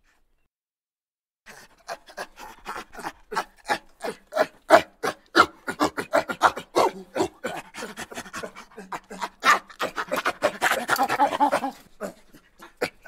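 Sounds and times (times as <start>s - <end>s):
animal panting rapidly: 1.5s - 13.0s.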